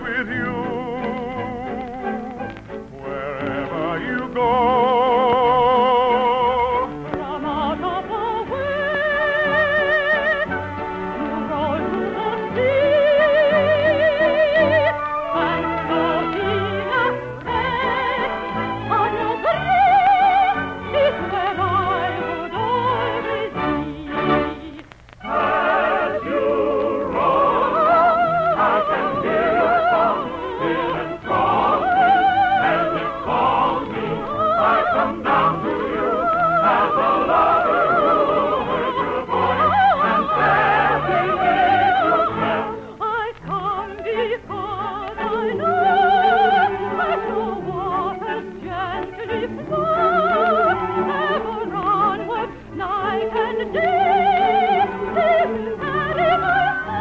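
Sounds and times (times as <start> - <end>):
orchestra playing: 0.0 - 57.0
person singing with vibrato: 0.0 - 57.0.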